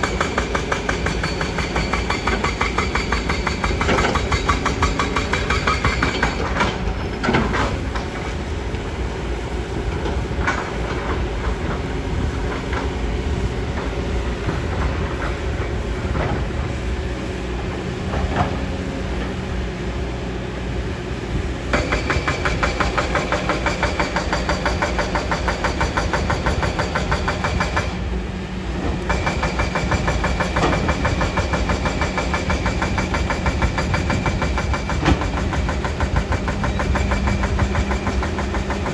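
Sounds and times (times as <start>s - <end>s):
excavator diesel engine clattering: 0.0s - 19.5s, 21.6s - 28.0s, 28.8s - 38.9s.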